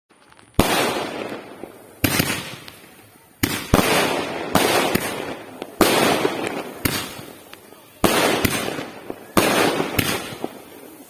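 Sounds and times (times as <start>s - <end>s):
firework bangs: 0.1s - 11.0s
firework hiss and crackle: 0.1s - 11.0s.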